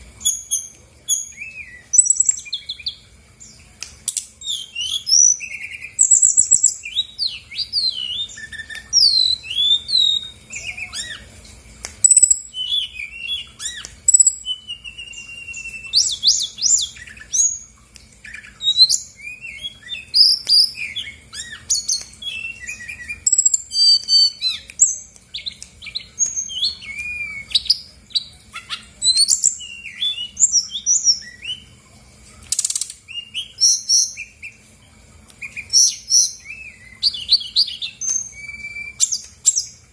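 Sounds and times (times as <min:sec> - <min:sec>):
bird singing varied song: 0:00.0 - 0:31.8, 0:32.5 - 0:39.9
faint steady hum: 0:00.0 - 0:39.9.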